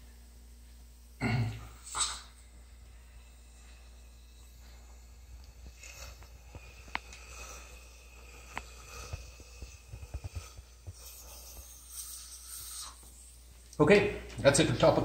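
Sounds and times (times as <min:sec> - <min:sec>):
man breathing: 0:01.5 - 0:13.6
airy hissing of atomizer: 0:01.6 - 0:13.7.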